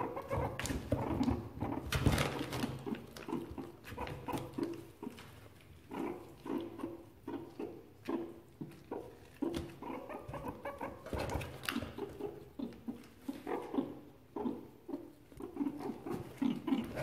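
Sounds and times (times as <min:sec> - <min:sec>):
meerkats peeping: 0:00.0 - 0:17.0.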